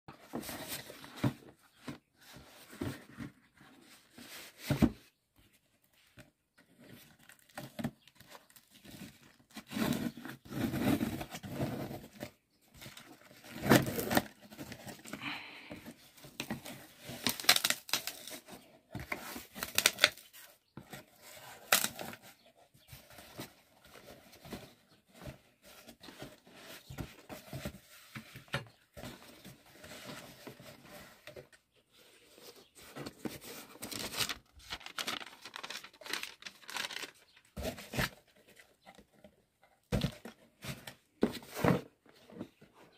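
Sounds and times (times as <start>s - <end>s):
cardboard flaps rustling and scraping: 0.1s - 15.2s, 15.8s - 42.9s.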